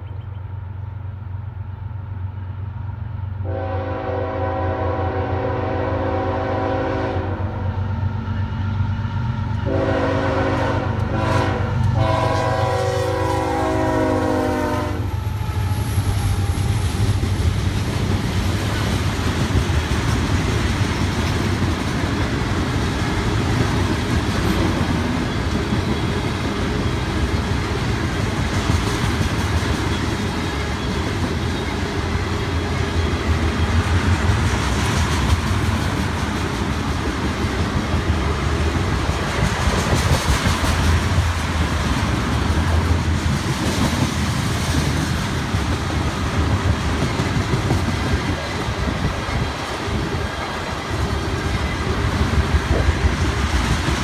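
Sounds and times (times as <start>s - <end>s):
diesel locomotive passing: 0.0s - 54.0s
train cars rumbling: 0.0s - 54.0s.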